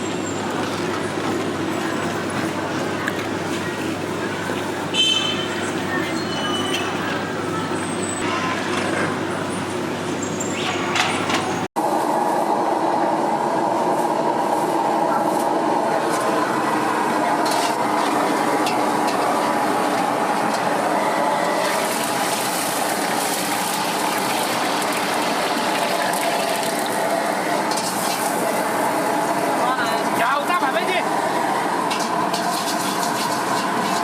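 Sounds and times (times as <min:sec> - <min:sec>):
gas burner and fan roaring: 0:00.0 - 0:34.0.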